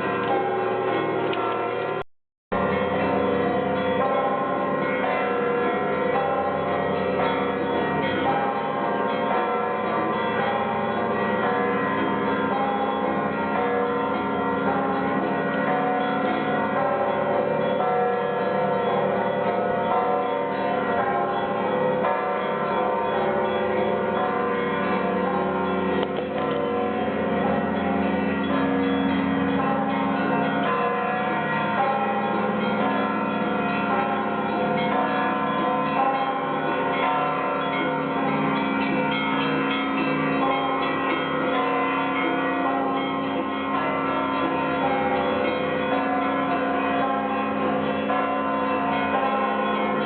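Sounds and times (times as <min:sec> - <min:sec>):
church bells pealing: 0:00.0 - 0:50.0.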